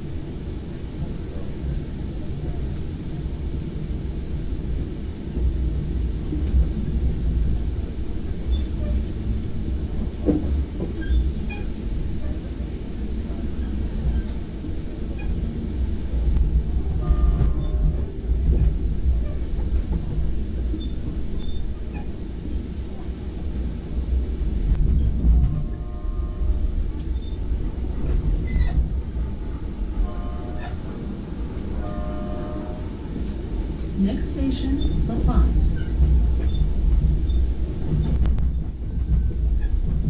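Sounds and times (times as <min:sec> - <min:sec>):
train rumbling along track: 0:00.0 - 0:40.0.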